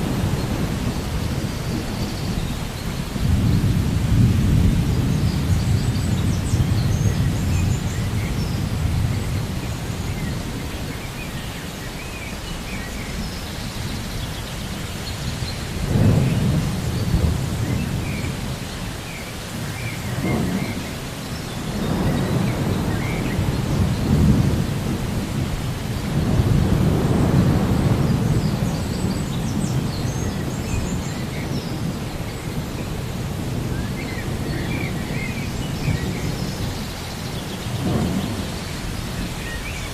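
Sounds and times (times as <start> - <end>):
low rolling thunder: 0.0 - 11.0, 15.2 - 39.9
steady rain: 0.0 - 39.9.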